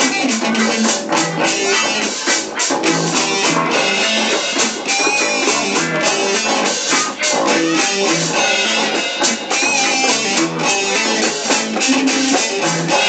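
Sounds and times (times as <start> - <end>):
reggae music with guitar and drums: 0.0 - 13.0.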